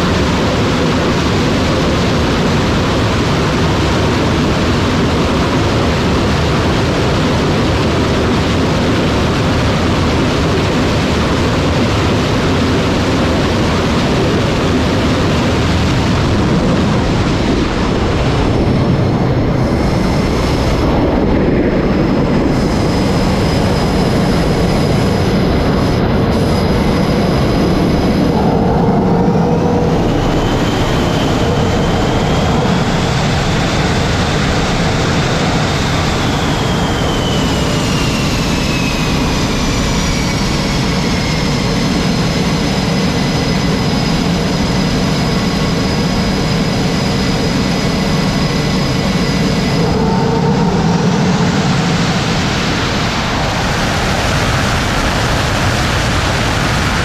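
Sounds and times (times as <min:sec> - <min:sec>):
jet engine whine: 0:00.0 - 0:57.0
jet engines roaring: 0:00.0 - 0:57.0.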